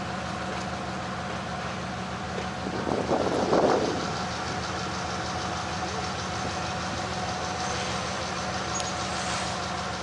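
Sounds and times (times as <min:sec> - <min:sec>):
locomotive engine hum: 0:00.0 - 0:10.0.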